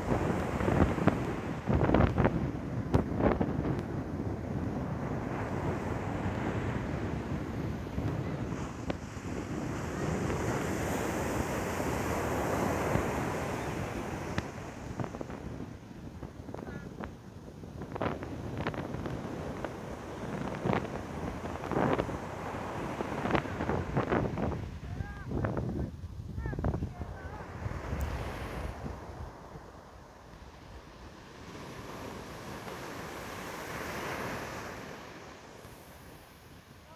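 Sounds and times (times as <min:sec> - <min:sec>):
surf breaking on beach: 0:00.0 - 0:36.9
wind buffeting microphone: 0:00.0 - 0:36.9.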